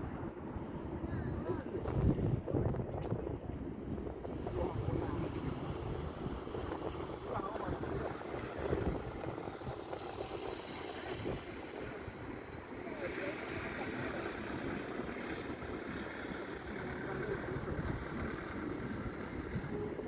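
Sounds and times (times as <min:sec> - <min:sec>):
jet airliner rumble: 0:00.0 - 0:20.0
wind buffeting microphone: 0:00.0 - 0:20.0.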